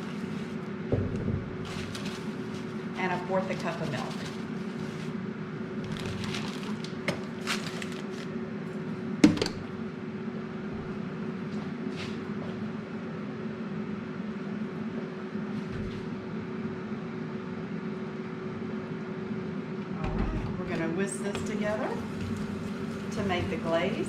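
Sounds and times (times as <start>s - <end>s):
air fryer humming: 0.0s - 24.0s.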